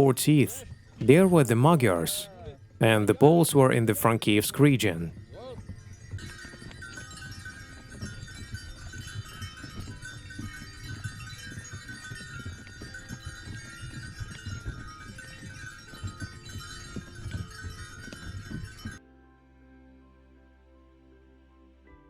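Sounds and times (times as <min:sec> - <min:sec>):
livestock bells jingling: 0:00.0 - 0:19.0.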